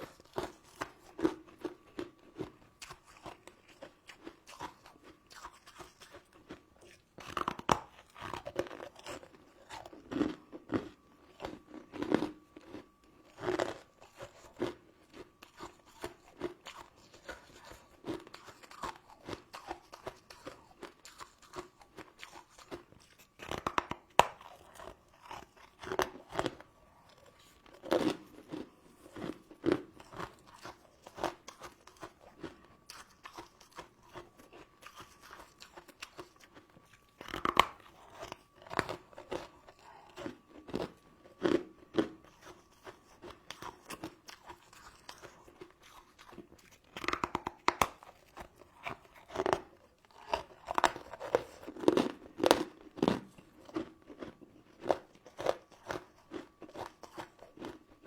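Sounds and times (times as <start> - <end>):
crunching and chewing candy: 0.0 - 58.0
faint steady hum: 0.0 - 58.0.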